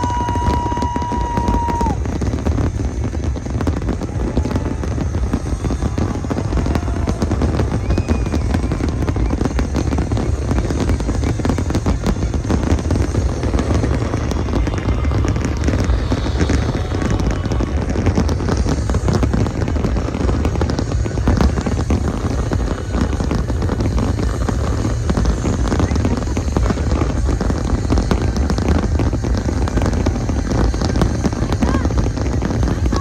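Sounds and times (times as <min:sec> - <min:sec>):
fireworks bangs and crackling: 0:00.0 - 0:33.0
low rumble: 0:00.0 - 0:33.0.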